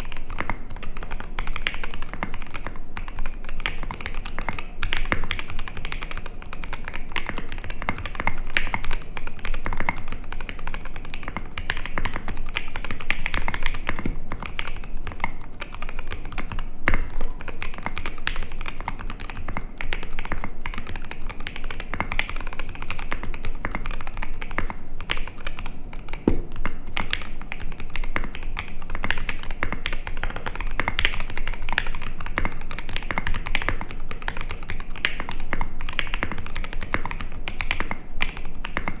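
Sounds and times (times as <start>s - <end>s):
fast typing on mechanical keyboard: 0.0s - 39.0s.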